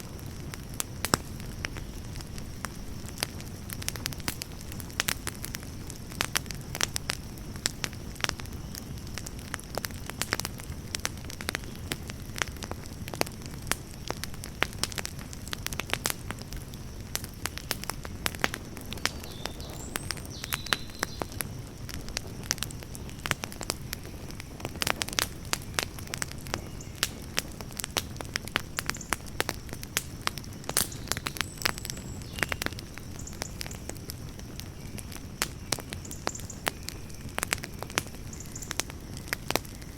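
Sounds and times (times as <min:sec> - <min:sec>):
campfire crackling and popping: 0:00.0 - 0:39.9
flames burning steadily: 0:00.0 - 0:39.9.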